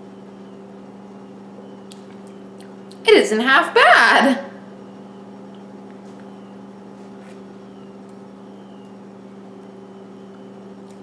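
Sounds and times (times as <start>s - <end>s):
low appliance motor hum: 0.0s - 11.0s.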